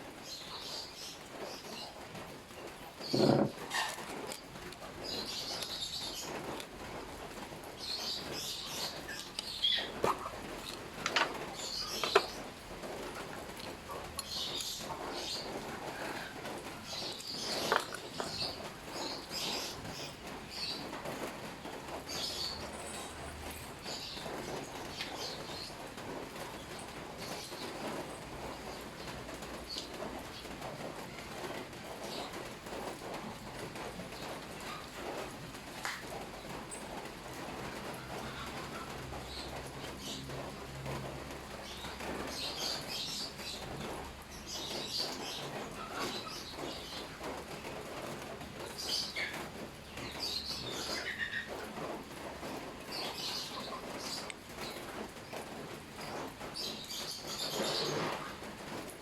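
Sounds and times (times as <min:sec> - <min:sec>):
birds chirping: 0:00.0 - 0:37.0, 0:37.6 - 0:58.9.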